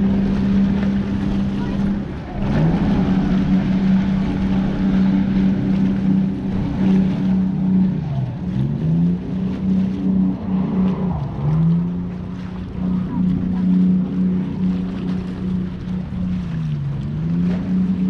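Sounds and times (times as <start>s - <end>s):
motorboat engine running: 0.0s - 18.0s
water rushing: 0.0s - 18.0s
wind: 0.0s - 18.0s.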